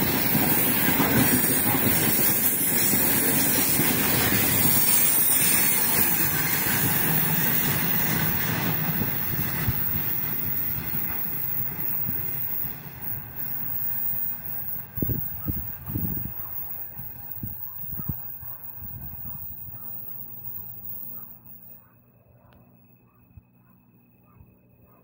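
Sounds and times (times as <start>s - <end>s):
train wheels rolling on rails: 0.0s - 21.8s.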